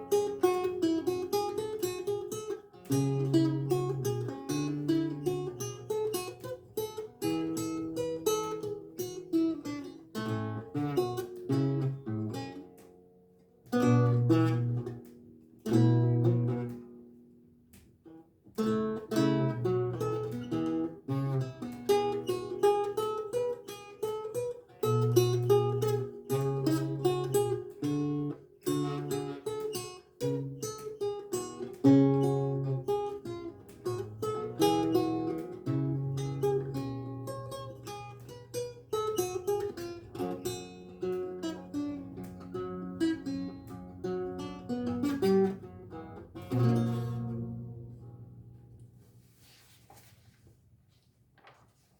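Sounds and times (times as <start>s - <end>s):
lute playing: 0.0s - 12.9s, 18.5s - 49.6s.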